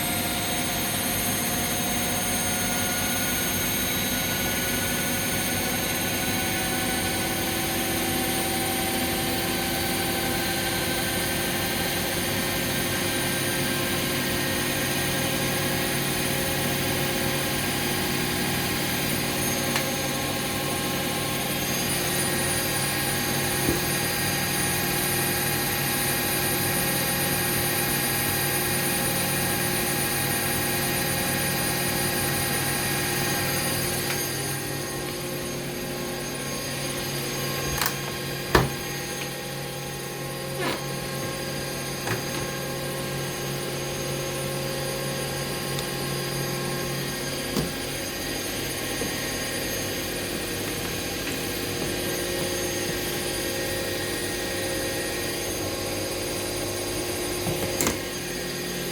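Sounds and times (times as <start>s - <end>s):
washing machines spinning: 0.0s - 58.9s.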